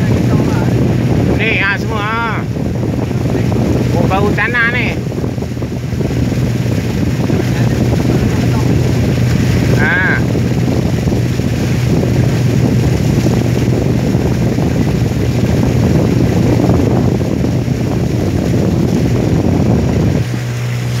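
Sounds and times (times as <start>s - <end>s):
boat motor humming: 0.0s - 21.0s
water rushing past hull: 0.0s - 21.0s.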